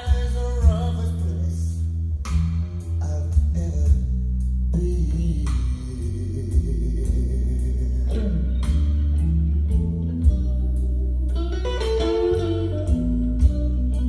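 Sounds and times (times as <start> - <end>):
blues music from loudspeakers: 0.0 - 14.0.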